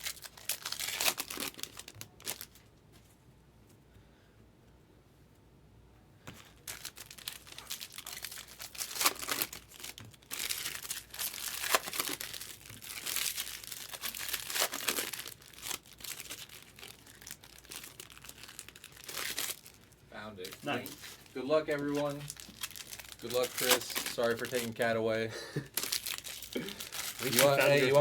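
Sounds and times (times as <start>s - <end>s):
packaging crinkling and tearing: 0.0s - 2.7s, 6.3s - 28.0s.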